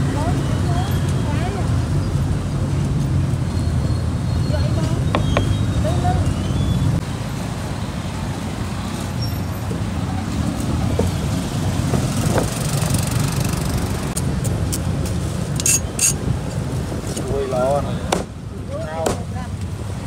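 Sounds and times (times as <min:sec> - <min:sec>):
motorbikes passing: 0:00.0 - 0:20.0
street traffic rumble: 0:00.0 - 0:20.0.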